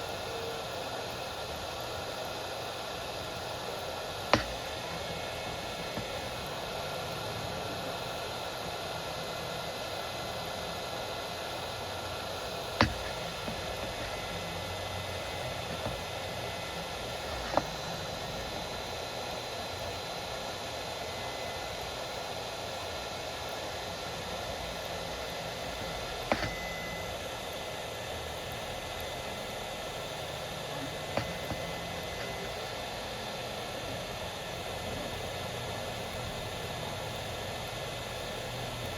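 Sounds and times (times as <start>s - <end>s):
faint high whine: 0.0s - 38.9s
steady hiss: 0.0s - 38.9s.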